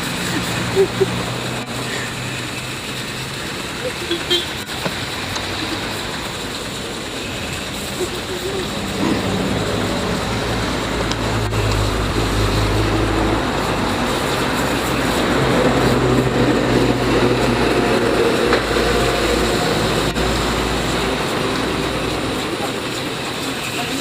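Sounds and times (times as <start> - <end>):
pressure washer pump hum: 0.0 - 24.0
water spraying hiss: 0.0 - 24.0.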